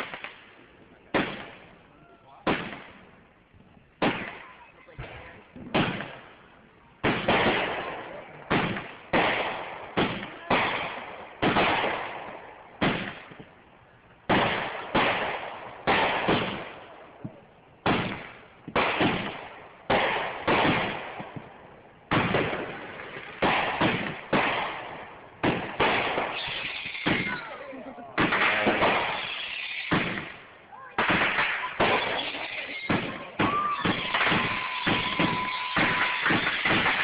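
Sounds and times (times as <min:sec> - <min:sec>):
fireworks bangs with echo: 0:00.0 - 0:00.5, 0:01.1 - 0:03.1, 0:04.0 - 0:06.4, 0:07.0 - 0:13.5, 0:14.2 - 0:37.0.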